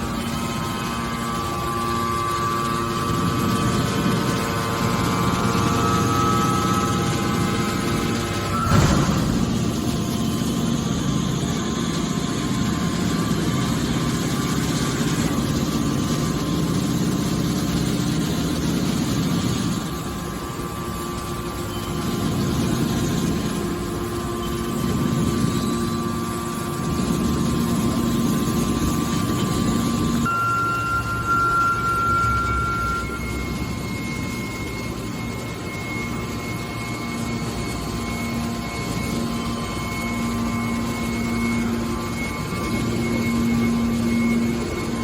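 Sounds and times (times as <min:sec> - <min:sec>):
hydraulic baler humming: 0:00.0 - 0:45.0.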